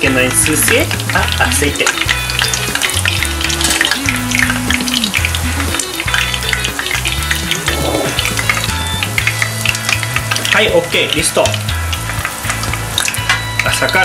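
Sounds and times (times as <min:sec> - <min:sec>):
tempura frying in hot oil: 0:00.0 - 0:14.0.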